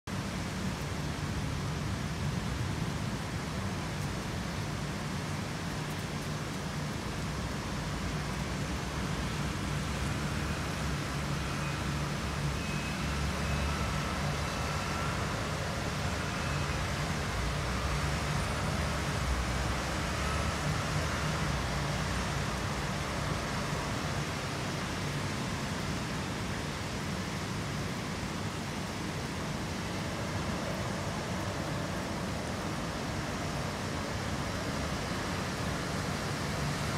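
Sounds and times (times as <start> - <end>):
rain hiss: 0.1 - 36.9
road traffic rumble: 0.1 - 36.9.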